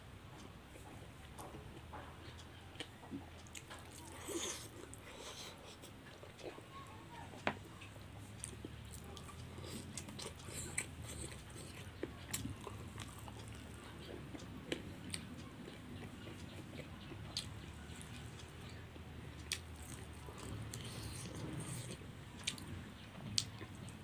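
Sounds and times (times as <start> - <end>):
low steady hum: 0.0 - 24.0
person chewing food: 0.4 - 6.6, 7.4 - 24.0.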